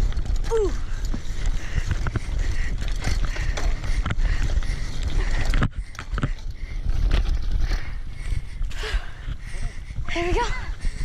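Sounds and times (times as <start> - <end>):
mountain bike rattling and knocking: 0.0 - 11.0
wind rumble on microphone: 0.0 - 11.0.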